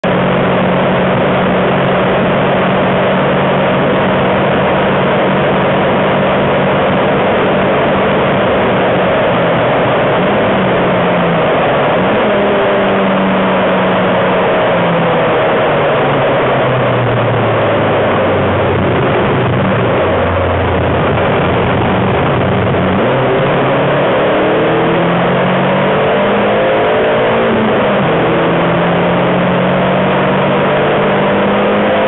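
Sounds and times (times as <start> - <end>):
car engine at full throttle: 0.0 - 32.0
road and wind noise: 0.0 - 32.0.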